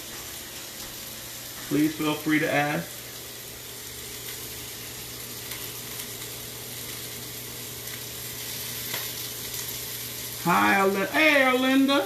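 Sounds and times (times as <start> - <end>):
stir-fry sizzling in oil: 0.0 - 12.0.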